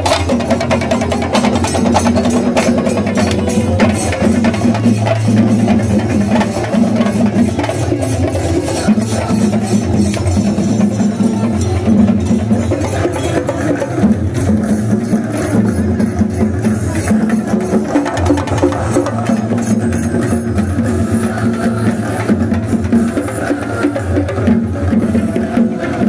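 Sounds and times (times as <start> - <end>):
drum ensemble playing fast: 0.0 - 26.0.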